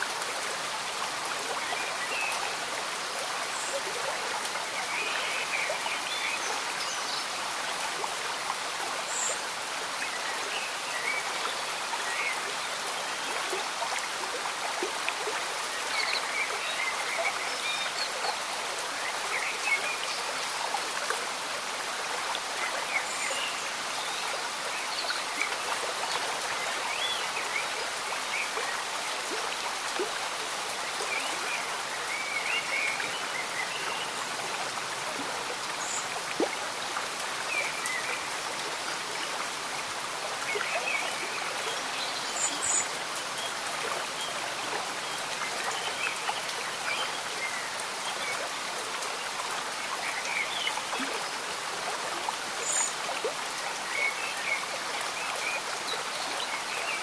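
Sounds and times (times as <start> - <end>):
gentle rain: 0.0 - 57.0
stream bubbling and gurgling: 0.0 - 57.0.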